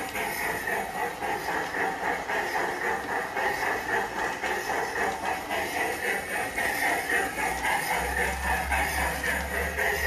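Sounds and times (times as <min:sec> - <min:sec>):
toy train motor whirring: 0:00.0 - 0:10.0
wheels rolling on rails: 0:00.0 - 0:10.0.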